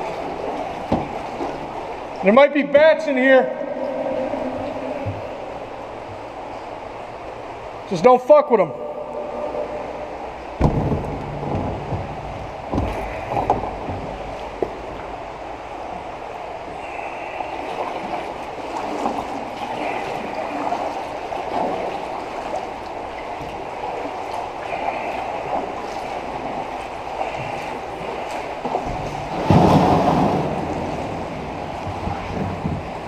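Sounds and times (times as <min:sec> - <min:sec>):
kayak paddles splashing: 0:00.0 - 0:33.0
water churning: 0:00.0 - 0:33.0.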